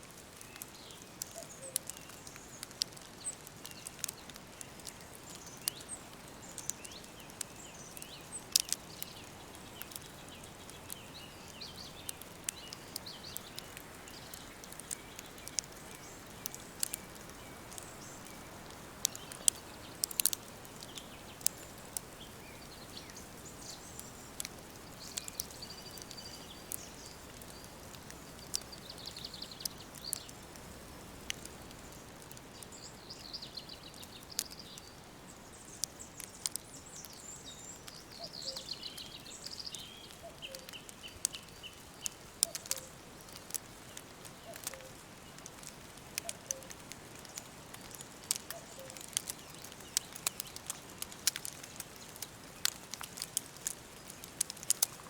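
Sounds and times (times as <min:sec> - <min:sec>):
sharp crackling clicks: 0:00.1 - 0:55.0
songbirds singing: 0:00.2 - 0:55.0.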